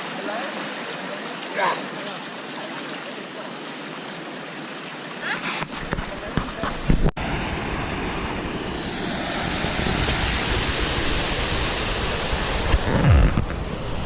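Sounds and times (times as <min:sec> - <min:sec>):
flowing water: 0:00.0 - 0:14.0.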